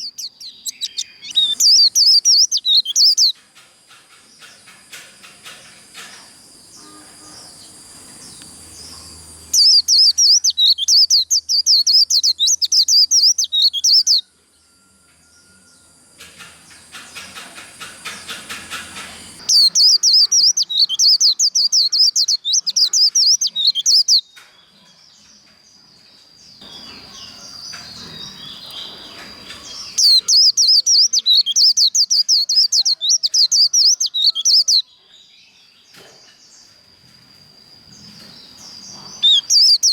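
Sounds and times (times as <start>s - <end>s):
bird chirps and calls: 0.0s - 14.2s, 16.2s - 24.8s, 26.5s - 36.0s, 37.7s - 39.9s
bird twittering song: 0.0s - 14.7s, 15.3s - 39.9s.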